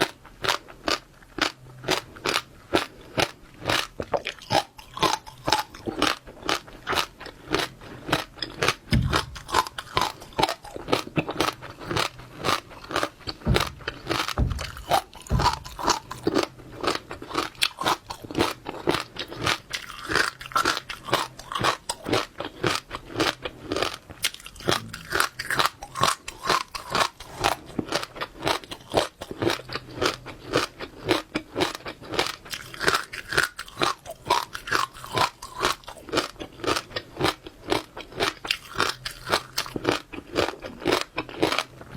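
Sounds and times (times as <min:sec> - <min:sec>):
chewing crunchy seeds: 0:00.0 - 0:41.9.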